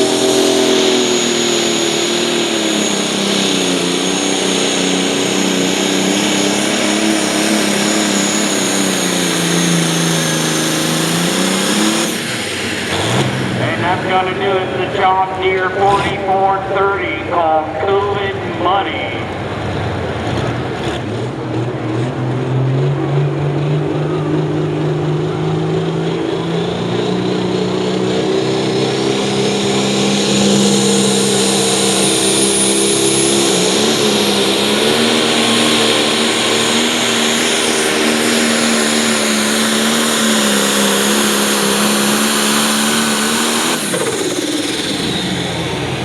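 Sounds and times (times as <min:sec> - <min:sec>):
diesel engine at full throttle: 0:00.0 - 0:46.0.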